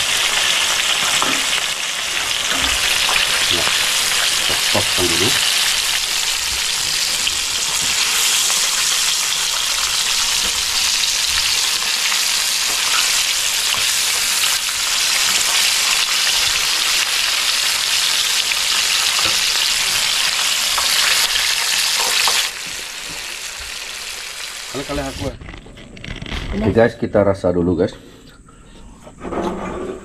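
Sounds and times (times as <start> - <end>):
fish deep-frying in hot oil: 0.0 - 25.3.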